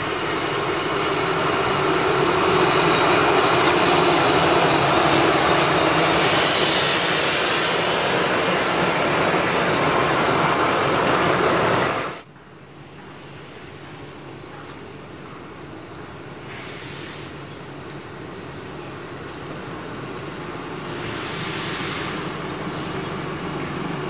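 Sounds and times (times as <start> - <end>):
diesel locomotive passing: 0.0 - 24.0
train coaches rolling on rails: 0.0 - 24.0.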